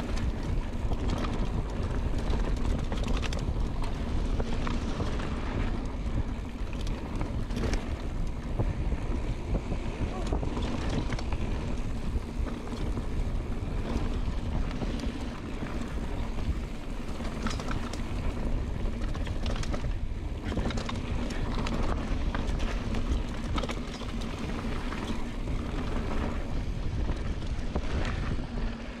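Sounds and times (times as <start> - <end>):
bike rattling over bumps: 0.0 - 29.0
bike tyres rumbling on dirt: 0.0 - 29.0
wind rush on microphone: 0.0 - 29.0.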